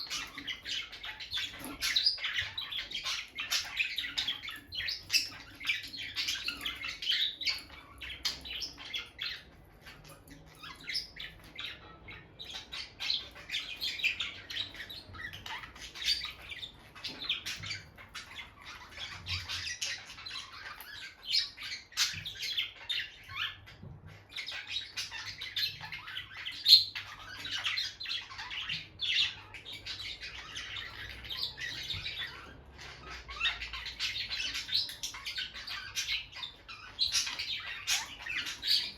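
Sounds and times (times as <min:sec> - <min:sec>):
lovebirds chirping and squawking: 0:00.0 - 0:38.9.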